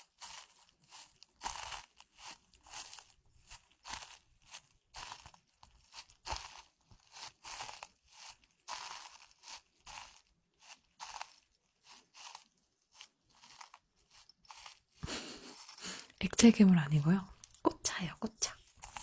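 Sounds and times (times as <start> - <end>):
dried tea crunching: 0.0 - 19.0.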